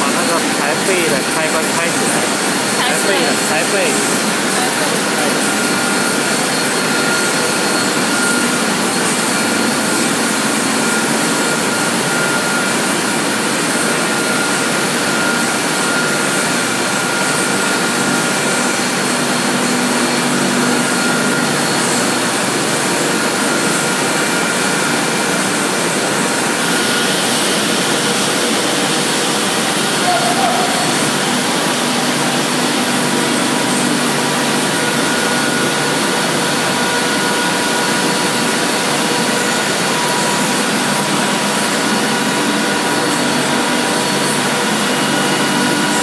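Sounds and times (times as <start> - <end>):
rushing machine noise: 0.0 - 46.0.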